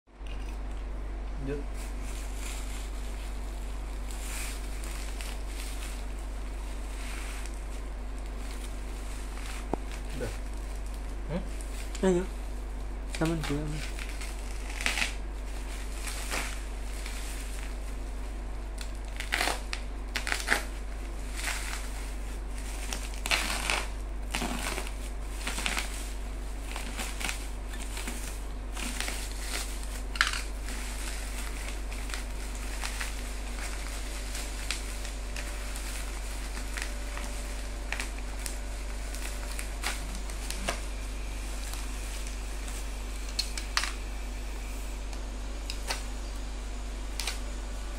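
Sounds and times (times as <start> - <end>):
bubble wrap crinkling: 0.3 - 47.9.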